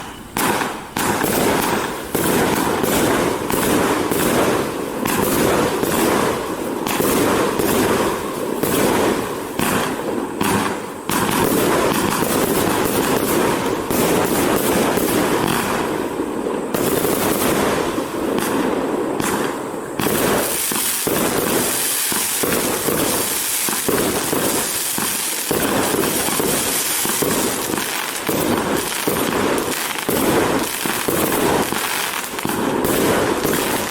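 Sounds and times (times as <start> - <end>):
firework barrage firing: 0.0 - 33.9
high crackling hiss: 0.0 - 33.9.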